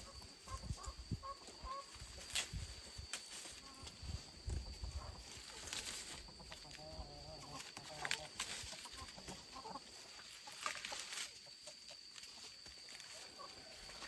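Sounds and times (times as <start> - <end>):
chickens clucking: 0.0 - 2.8, 3.4 - 14.0.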